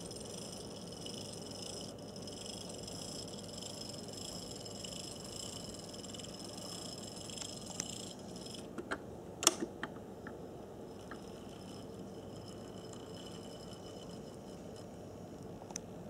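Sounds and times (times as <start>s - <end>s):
thin high whine: 0.0s - 8.7s, 10.5s - 15.7s
electric motor buzzing hum: 0.0s - 8.8s, 10.7s - 15.5s.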